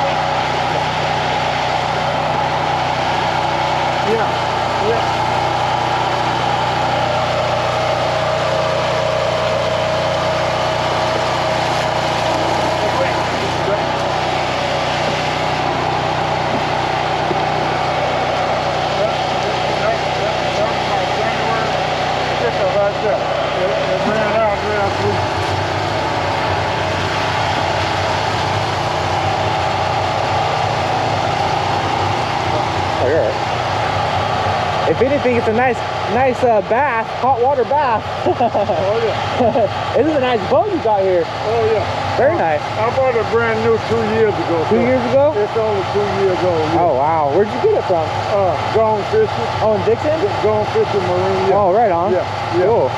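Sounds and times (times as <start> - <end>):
engine running steadily: 0.0 - 52.9
steady whine: 0.0 - 52.9.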